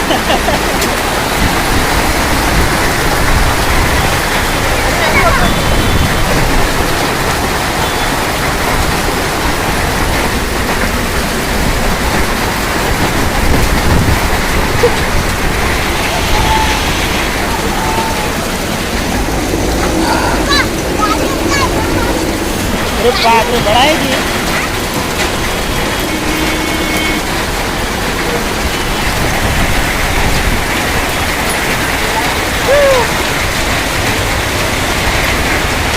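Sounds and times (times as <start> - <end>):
heavy rain with hail: 0.0 - 35.9.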